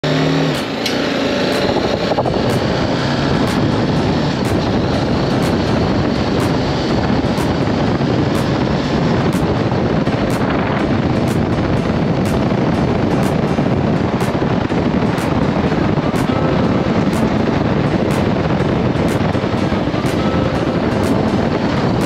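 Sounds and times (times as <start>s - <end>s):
motorcycle engine running: 0.0s - 22.0s
wind and road noise: 0.0s - 22.0s.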